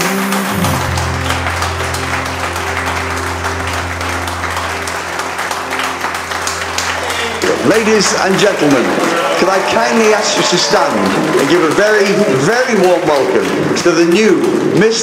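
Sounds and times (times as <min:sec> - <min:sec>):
music with long held notes: 0:00.0 - 0:13.8
guests applauding: 0:00.0 - 0:15.0.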